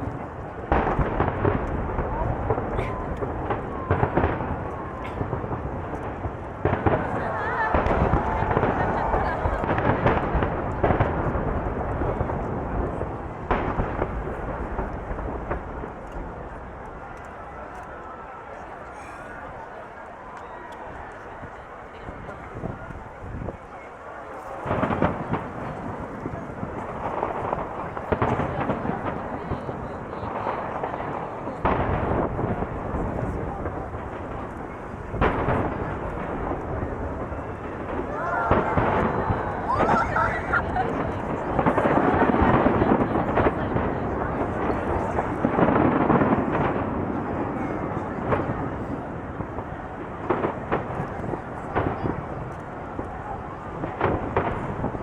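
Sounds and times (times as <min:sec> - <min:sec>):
fireworks shells booming: 0:00.0 - 0:20.2, 0:20.8 - 0:55.0
rumbling and echo of fireworks: 0:00.0 - 0:55.0.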